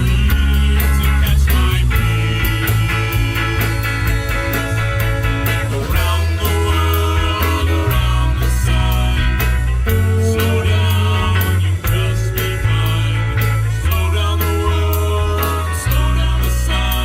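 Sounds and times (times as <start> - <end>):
rock band playing instrumental: 0.0 - 17.0.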